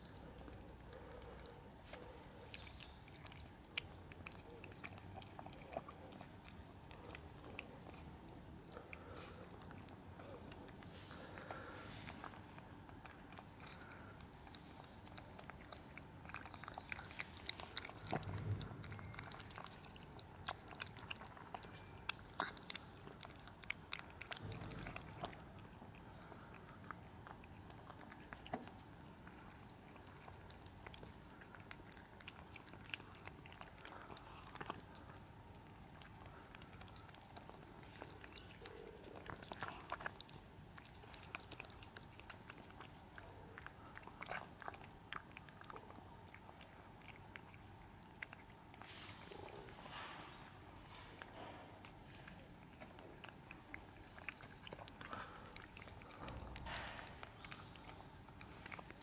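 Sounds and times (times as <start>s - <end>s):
cats chewing wet food: 0.0s - 59.0s.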